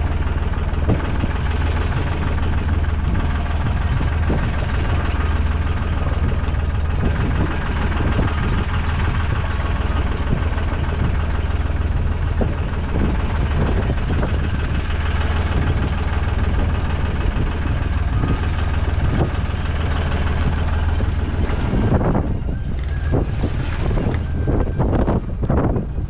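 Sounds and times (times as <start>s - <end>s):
boat engine idling: 0.0s - 26.0s
water rushing along hull: 0.0s - 26.0s
wind noise on microphone: 0.0s - 26.0s.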